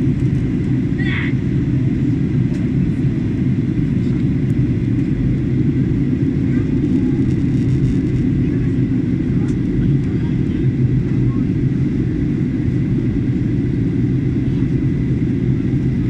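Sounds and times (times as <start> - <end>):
airplane cabin low rumble: 0.0 - 16.0.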